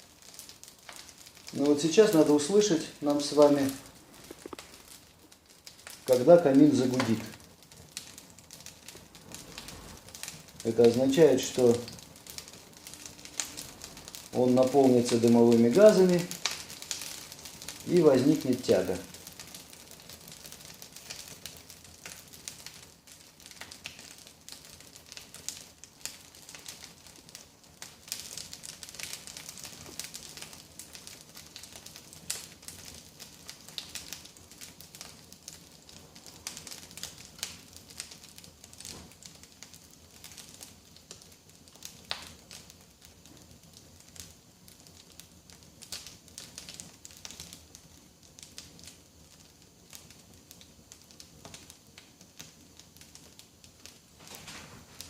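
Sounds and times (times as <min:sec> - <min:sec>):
firewood crackling and popping: 0:00.0 - 0:55.0
soft fire hiss: 0:00.0 - 0:55.0.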